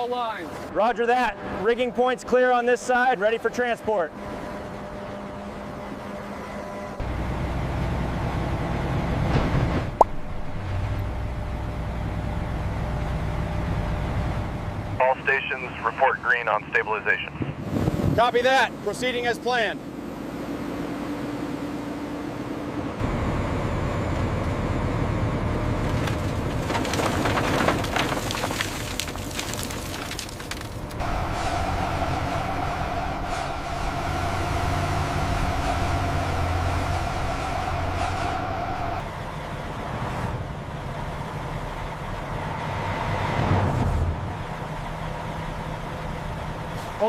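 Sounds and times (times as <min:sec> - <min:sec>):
heavy machinery rumble: 0:04.2 - 0:18.2, 0:18.8 - 0:47.0.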